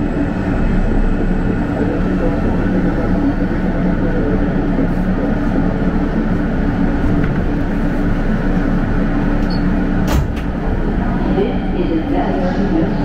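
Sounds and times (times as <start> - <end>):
low propulsion hum: 0.0 - 13.0
train wheel-on-rail rumble: 0.0 - 13.0.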